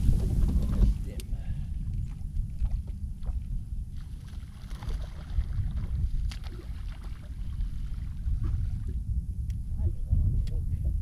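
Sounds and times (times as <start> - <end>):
low rumble of wind and water: 0.0 - 11.0.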